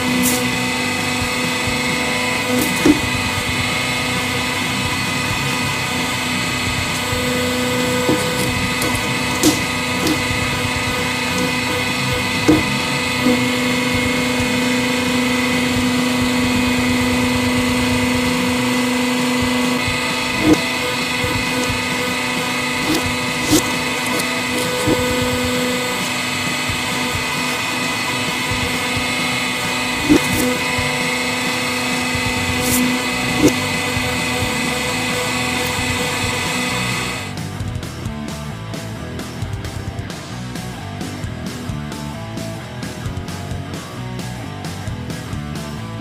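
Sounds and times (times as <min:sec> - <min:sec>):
hydraulic press humming: 0:00.0 - 0:37.4.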